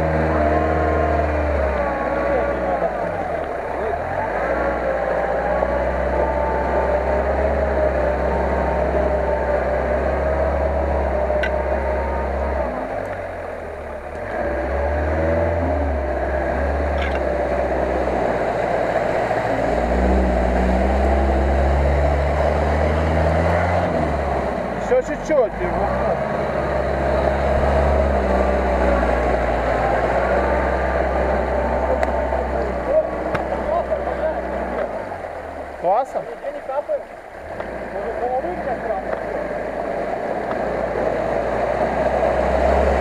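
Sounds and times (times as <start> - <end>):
off-road vehicle engine under load: 0.0 - 43.0.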